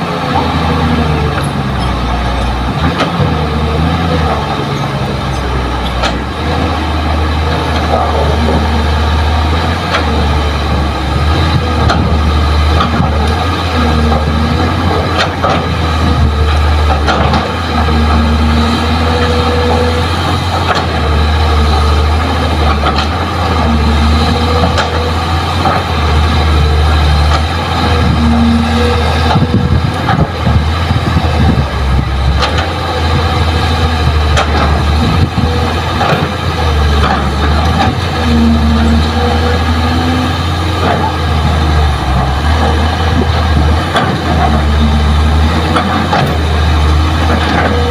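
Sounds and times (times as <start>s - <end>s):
excavator diesel engine under load: 0.0s - 47.9s.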